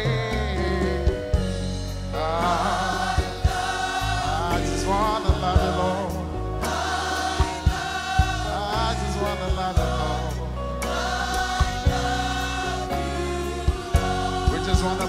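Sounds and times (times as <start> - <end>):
band with bass and drums: 0.0 - 15.0
choir singing: 2.2 - 15.0.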